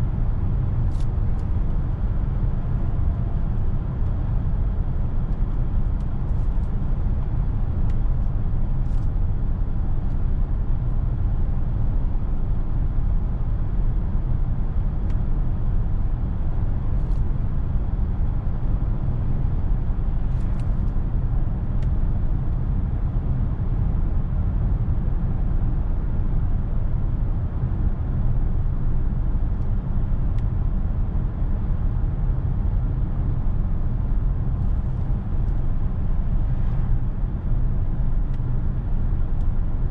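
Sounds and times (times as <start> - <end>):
road and tyre rumble in car: 0.0 - 39.9.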